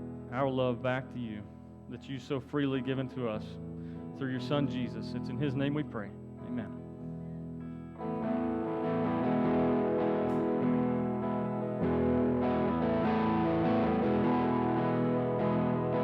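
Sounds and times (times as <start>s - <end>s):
electric guitar with effects: 0.0s - 1.9s, 2.6s - 16.0s.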